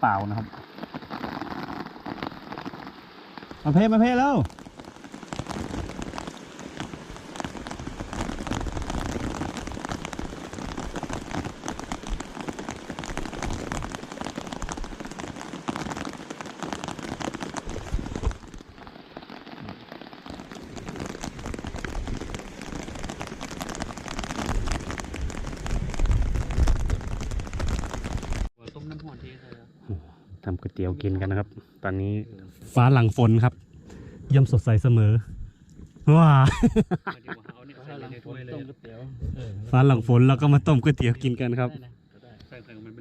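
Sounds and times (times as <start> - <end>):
rain falling steadily: 0.0 - 43.0.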